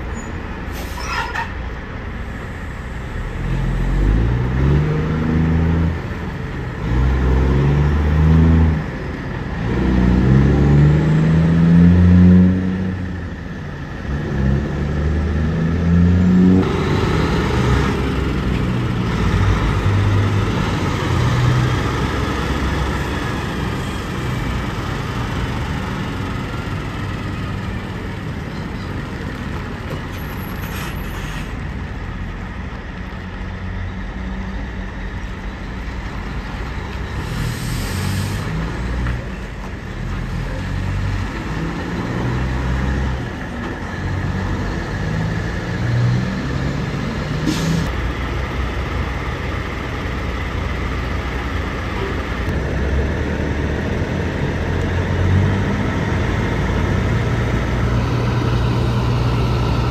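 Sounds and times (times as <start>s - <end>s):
road noise: 0.0s - 59.9s
truck engine accelerating: 2.4s - 59.9s.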